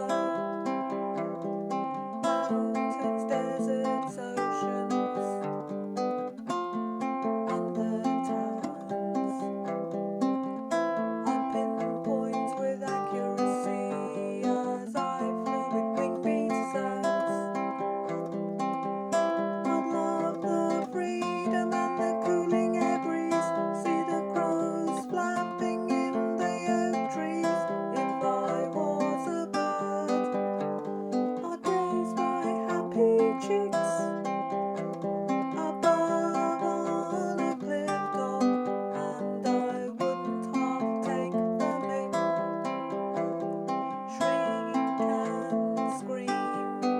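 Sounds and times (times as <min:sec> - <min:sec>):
ukulele chords: 0:00.0 - 0:46.9.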